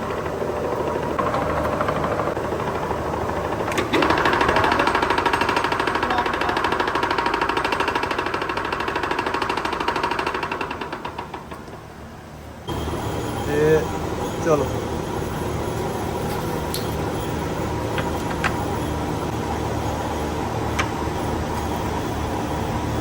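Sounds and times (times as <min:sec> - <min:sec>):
factory machine rattling: 0:00.2 - 0:11.6, 0:12.7 - 0:19.9.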